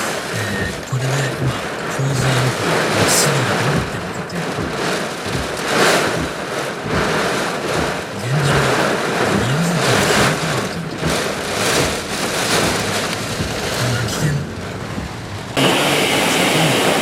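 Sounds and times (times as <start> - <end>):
wind gusting hard: 0.0 - 17.0.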